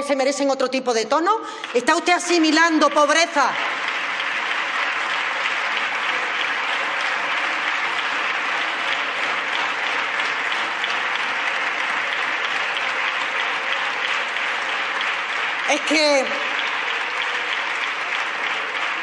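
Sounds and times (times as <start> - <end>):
crowd applauding: 1.5 - 19.0.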